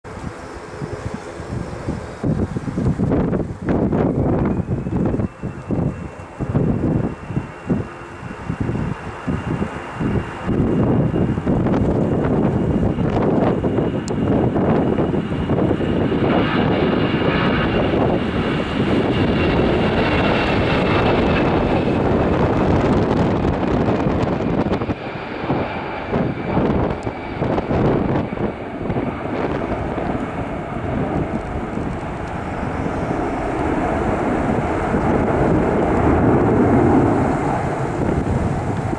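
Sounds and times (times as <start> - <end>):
jet engines at takeoff: 0.0 - 38.9
high whine sliding down: 0.1 - 15.8, 16.4 - 38.9.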